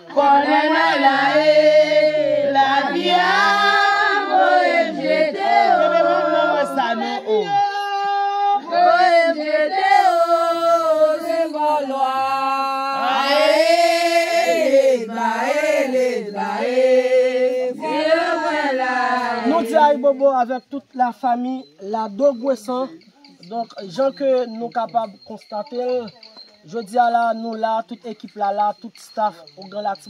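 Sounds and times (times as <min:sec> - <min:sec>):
voices singing unaccompanied: 0:00.0 - 0:30.0.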